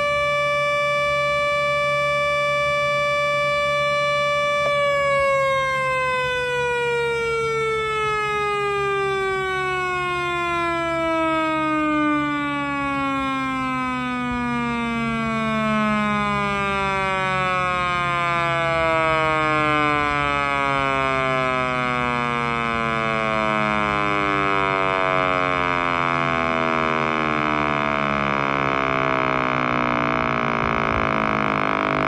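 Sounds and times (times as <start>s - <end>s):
siren winding down: 0.0s - 32.0s.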